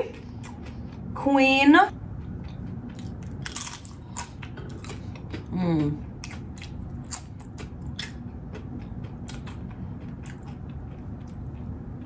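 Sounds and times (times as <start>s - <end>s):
person chewing crisp chips: 0.0s - 1.1s, 2.1s - 12.0s
low room hum: 0.0s - 12.0s.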